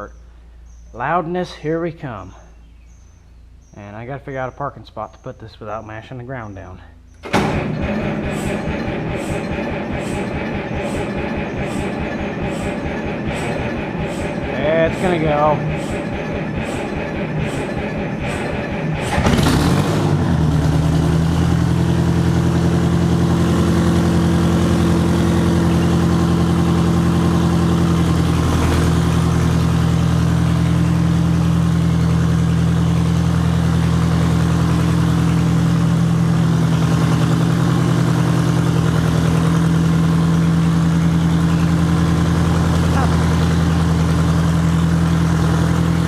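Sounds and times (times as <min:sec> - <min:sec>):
diesel engine cold start and idle: 0:00.0 - 0:46.0.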